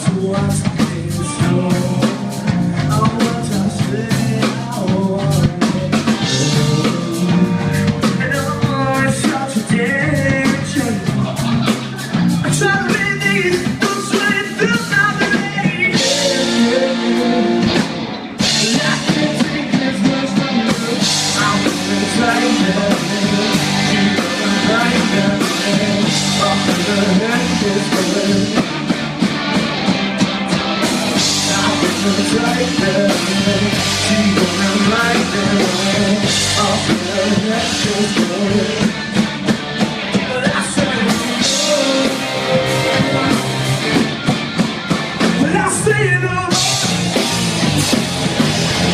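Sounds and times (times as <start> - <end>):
person singing: 0.0 - 29.0, 30.2 - 44.0
drum kit: 0.0 - 48.9
electric guitars: 0.0 - 48.9.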